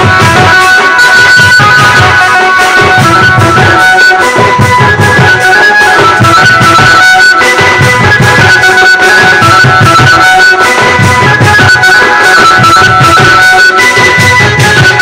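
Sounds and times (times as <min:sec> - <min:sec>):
high held melody: 0:00.0 - 0:15.0
steady drum beat: 0:00.0 - 0:15.0.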